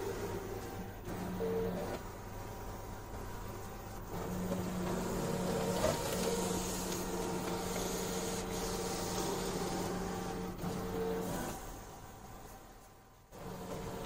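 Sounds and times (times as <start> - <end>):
printer mechanical hum: 0.0 - 14.0.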